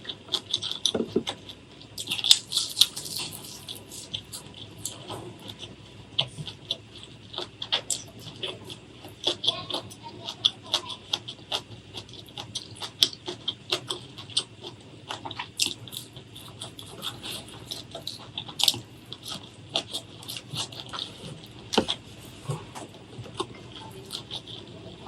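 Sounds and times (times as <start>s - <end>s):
chewing and crunching food: 0.0s - 25.0s.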